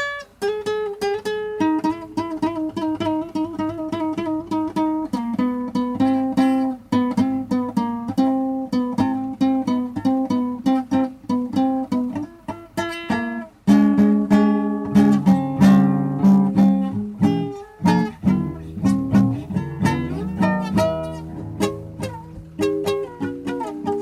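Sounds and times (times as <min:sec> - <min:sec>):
plucked string blues improvisation: 0:00.0 - 0:24.0.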